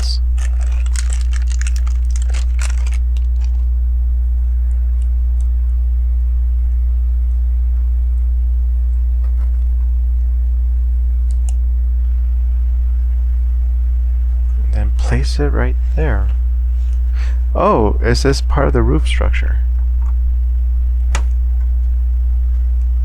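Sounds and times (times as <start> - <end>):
loud low hum: 0.0 - 23.0.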